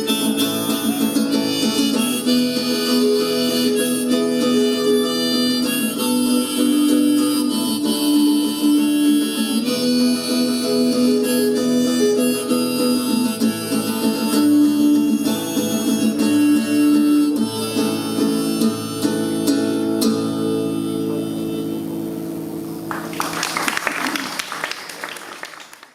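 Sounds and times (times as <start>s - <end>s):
strummed acoustic guitar: 0.0s - 23.1s
harmonica playing: 0.0s - 23.8s.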